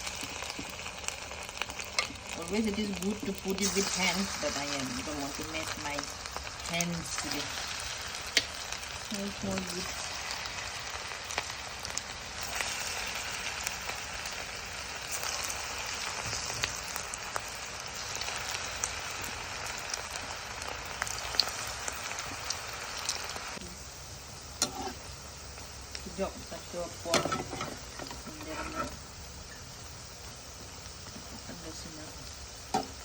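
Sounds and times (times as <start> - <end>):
batter frying in hot oil: 0.0 - 33.0.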